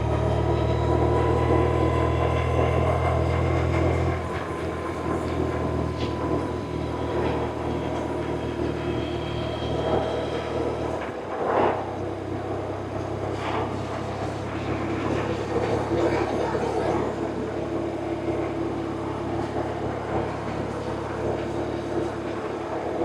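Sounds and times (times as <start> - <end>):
motorcycle engine drone: 0.0 - 23.0.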